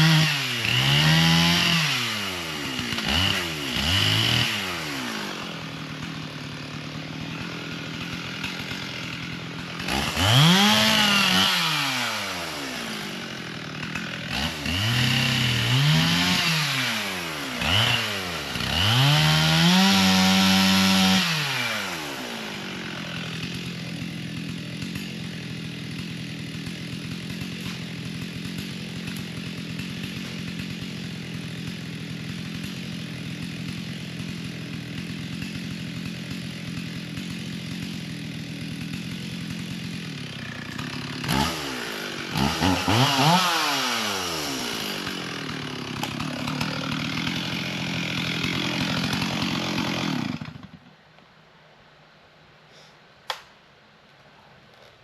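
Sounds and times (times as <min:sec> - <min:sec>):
chainsaw revving and idling: 0:00.0 - 0:51.0.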